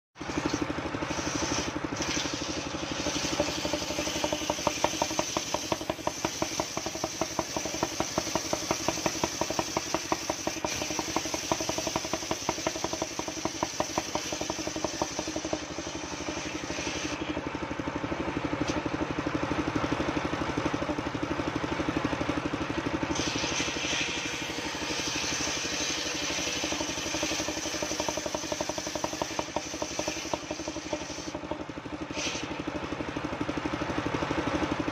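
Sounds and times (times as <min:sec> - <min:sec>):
sawmill engine running: 0:00.2 - 0:34.9.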